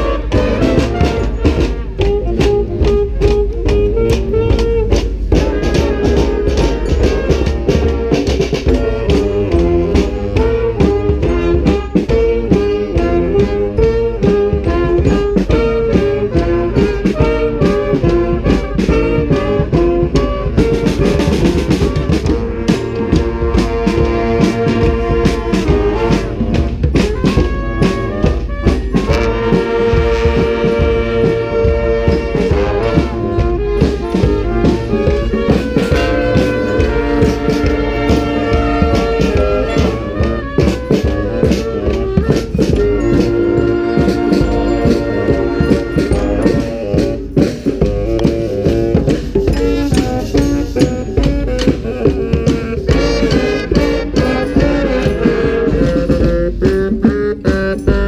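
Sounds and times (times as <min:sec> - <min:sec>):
brass street band playing: 0:00.0 - 0:58.0
snare and bass drums: 0:00.0 - 0:58.0.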